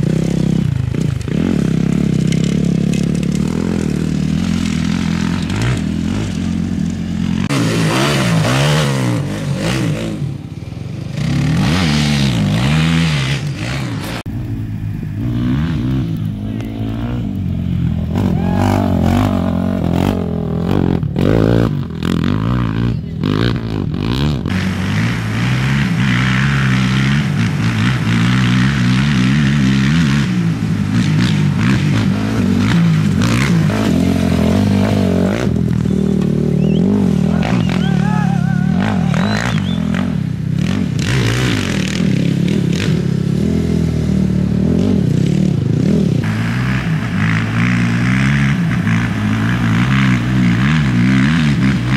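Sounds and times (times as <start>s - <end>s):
motorcycles revving past: 0.0s - 51.9s.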